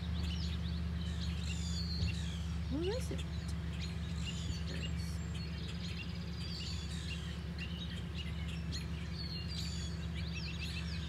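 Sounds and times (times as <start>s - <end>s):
songbirds chirping: 0.0s - 11.0s
steady low hum: 0.0s - 11.0s.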